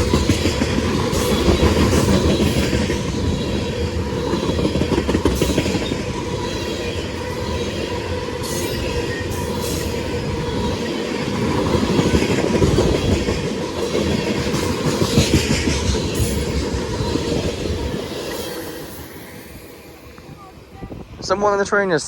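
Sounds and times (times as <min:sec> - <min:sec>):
freight train rumble: 0:00.0 - 0:22.0.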